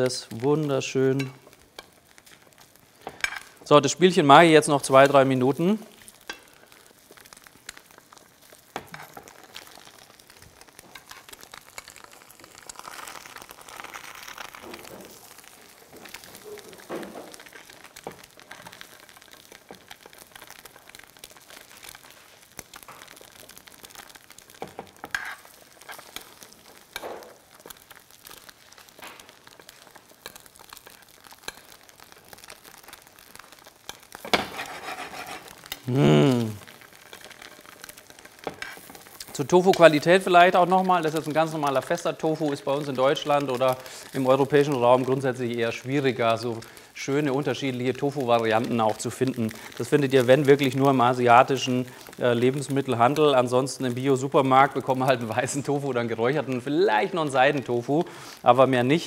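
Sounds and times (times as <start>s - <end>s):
butter sizzling in a pan: 0.0s - 59.0s.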